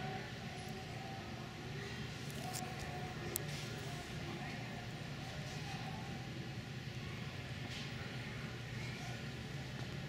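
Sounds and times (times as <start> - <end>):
ice arena background hum: 0.0 - 10.0.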